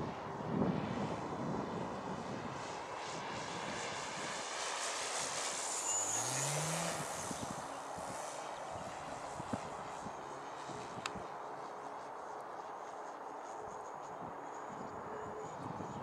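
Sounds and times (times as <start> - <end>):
model aeroplane motor whine: 0.0 - 16.0.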